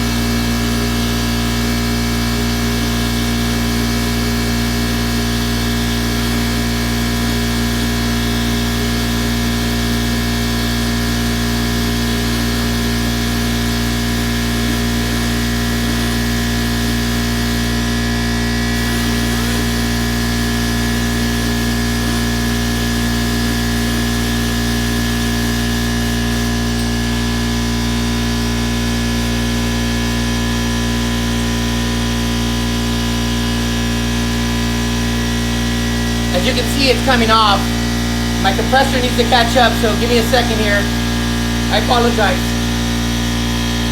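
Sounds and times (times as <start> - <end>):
air grinder hissing and whining: 0.0 - 43.9.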